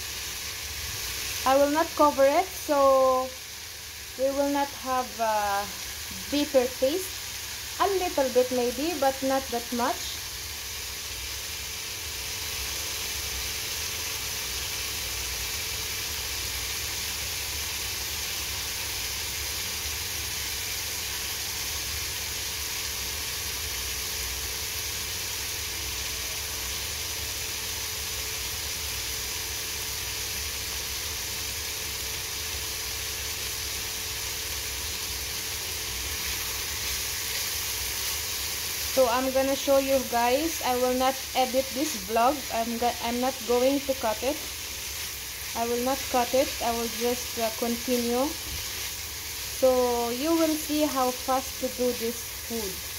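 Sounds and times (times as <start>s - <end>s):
vegetables sizzling in a frying pan: 0.0s - 52.9s.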